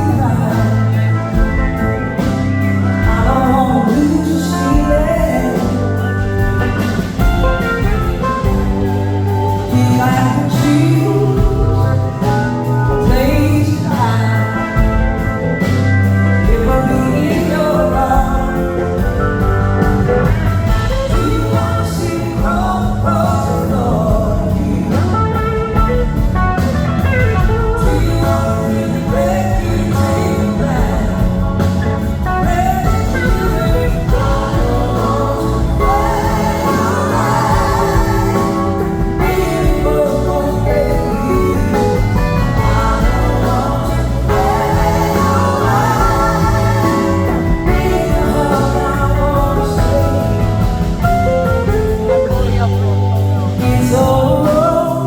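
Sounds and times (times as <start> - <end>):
bass guitar: 0.0 - 55.0
drums: 0.0 - 55.0
electric guitar: 0.0 - 55.0
person singing: 0.0 - 55.0.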